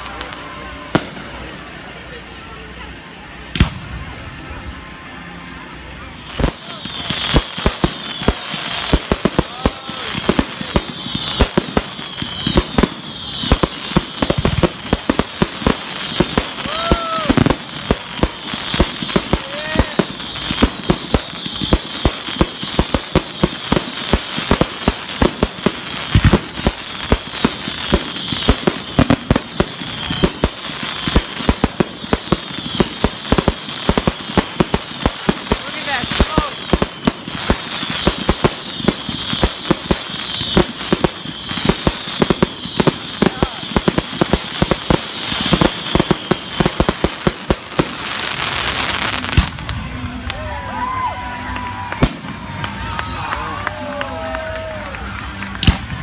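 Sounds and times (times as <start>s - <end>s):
crackling hiss: 0.0s - 50.3s
fireworks bangs: 6.2s - 50.5s, 51.9s - 53.2s.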